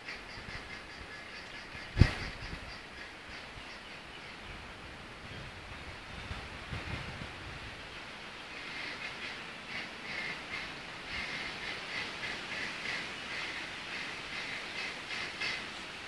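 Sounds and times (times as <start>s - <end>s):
wind noise hiss: 0.0s - 16.0s.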